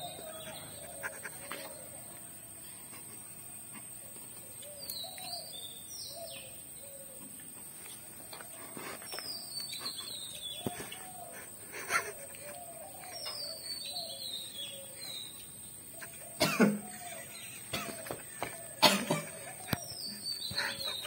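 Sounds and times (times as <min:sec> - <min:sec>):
faint birds calling: 0:00.0 - 0:21.0.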